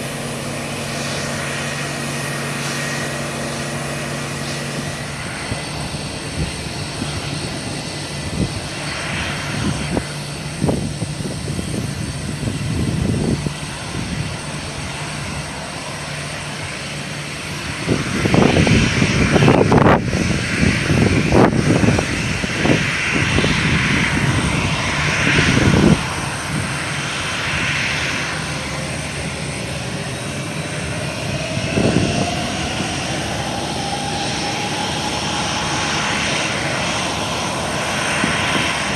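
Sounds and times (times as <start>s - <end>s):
jet engines running: 0.0s - 38.9s
rising engine whine: 0.0s - 38.9s.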